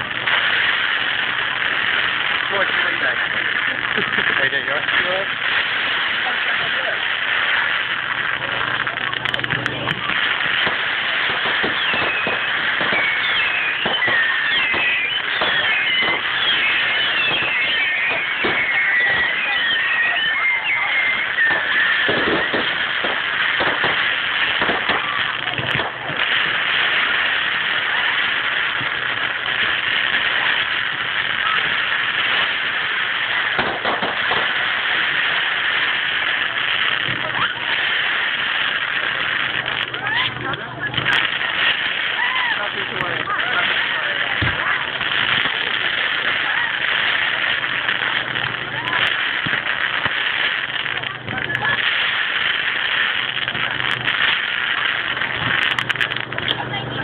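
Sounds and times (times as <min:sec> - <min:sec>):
fireworks crackling and banging: 0:00.0 - 0:57.0
high whistling fireworks: 0:00.0 - 0:57.0.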